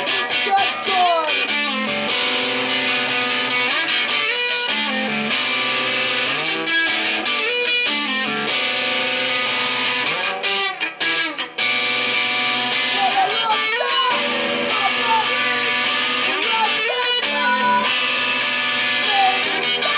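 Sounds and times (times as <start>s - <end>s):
distorted electric guitar chords: 0.0s - 19.9s.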